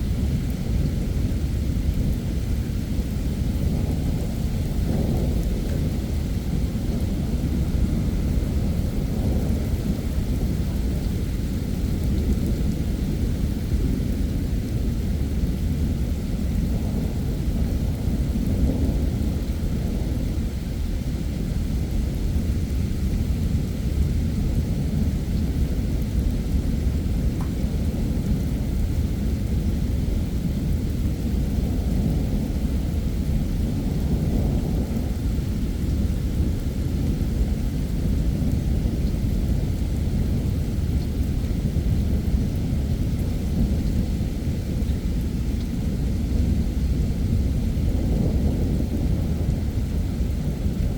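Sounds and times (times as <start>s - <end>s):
heavy rain falling: 0.0s - 50.9s
low rumble of thunder: 0.0s - 50.9s.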